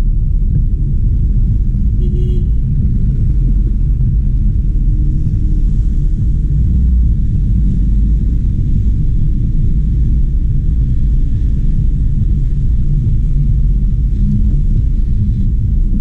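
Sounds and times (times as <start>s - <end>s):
car interior low rumble: 0.0s - 16.0s.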